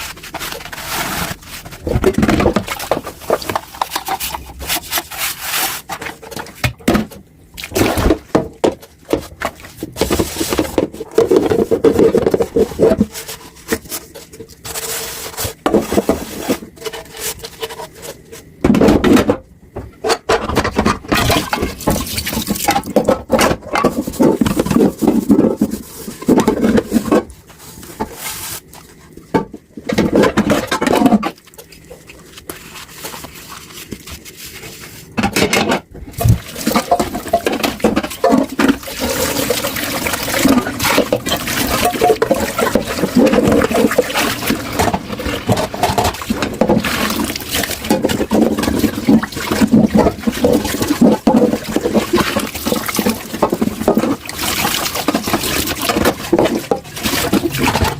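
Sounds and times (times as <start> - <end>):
dishes and cutlery clinking in sink: 0.0 - 57.9.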